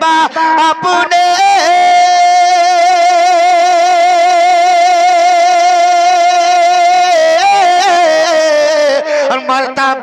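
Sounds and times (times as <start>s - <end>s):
man singing unaccompanied: 0.0s - 10.0s.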